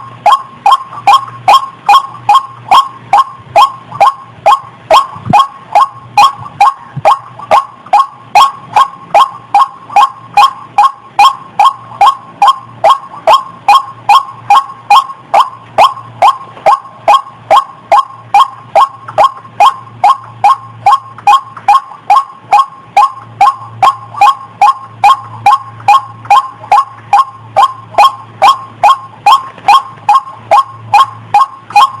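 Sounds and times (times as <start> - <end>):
bird calling downward notes: 0.0 - 32.0.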